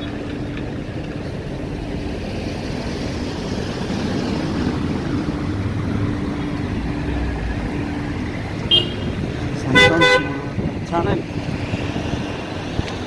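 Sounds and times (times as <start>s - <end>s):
low engine hum: 0.0s - 13.0s
vehicle road noise: 0.0s - 13.0s.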